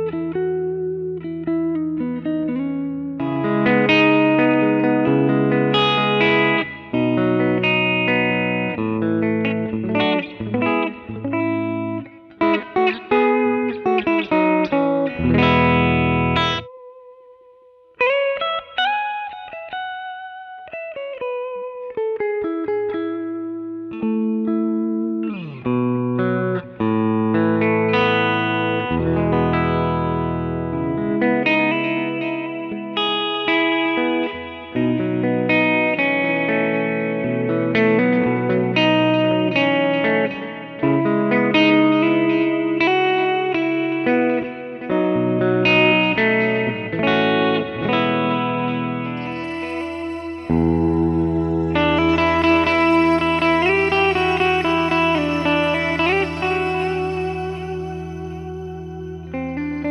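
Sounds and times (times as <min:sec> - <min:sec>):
electric guitar chords and riffs: 0:00.0 - 0:59.9.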